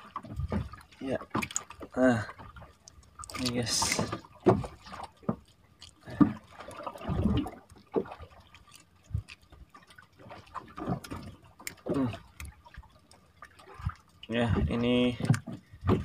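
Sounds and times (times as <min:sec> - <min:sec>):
fish slapping and knocking in boat: 0:00.0 - 0:16.0.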